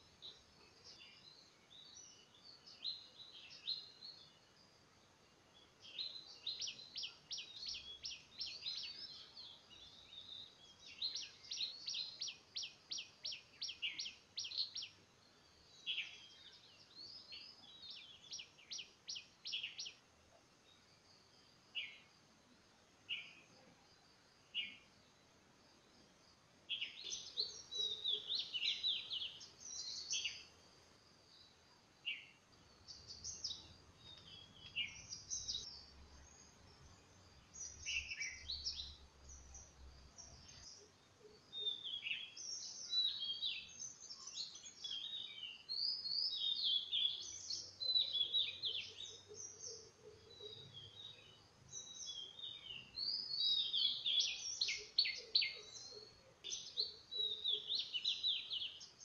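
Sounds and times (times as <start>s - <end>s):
birds chirping: 0.0s - 22.1s, 23.0s - 59.0s.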